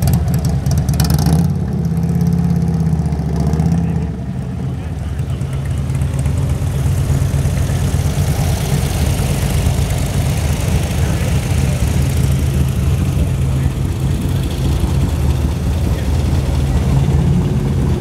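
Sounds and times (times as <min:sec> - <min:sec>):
bus engine running at low speed: 0:00.0 - 0:18.0.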